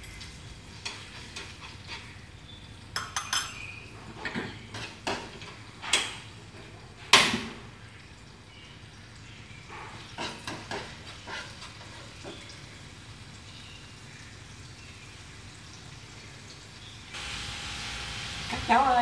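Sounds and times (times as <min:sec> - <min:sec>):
garlic sizzling in oil: 0:00.0 - 0:19.0.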